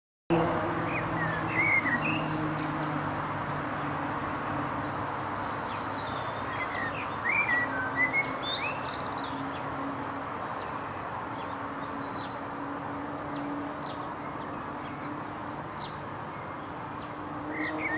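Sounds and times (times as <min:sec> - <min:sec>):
blackbird singing: 0:00.7 - 0:03.7, 0:04.9 - 0:10.7, 0:11.3 - 0:17.9.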